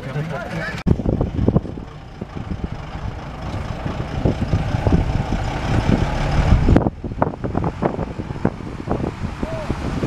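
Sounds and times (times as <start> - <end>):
truck diesel engine passing: 0.0 - 10.0.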